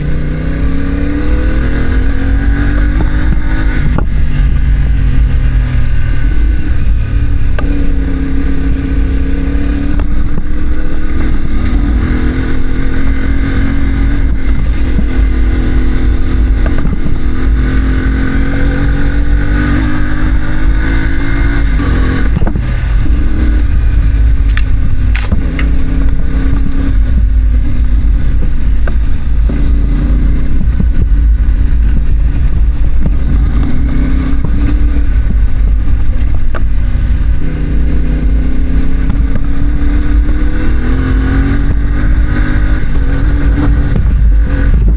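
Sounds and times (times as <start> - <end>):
motorcycle engine revving: 0.0 - 44.9
wind rumble on microphone: 0.0 - 44.9.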